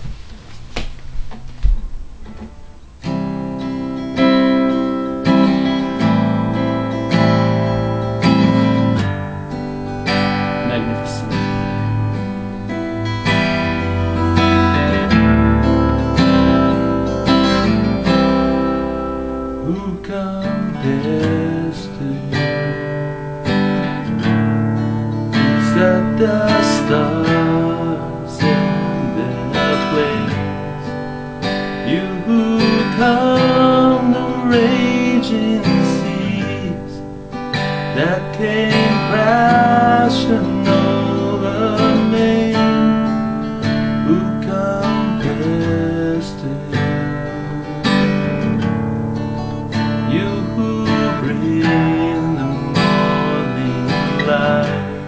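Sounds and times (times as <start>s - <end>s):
acoustic guitar strummed: 0.0s - 55.0s.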